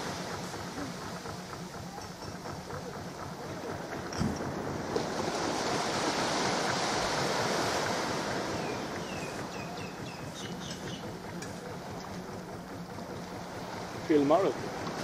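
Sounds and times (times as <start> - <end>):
wind and sea surf: 0.0 - 15.0.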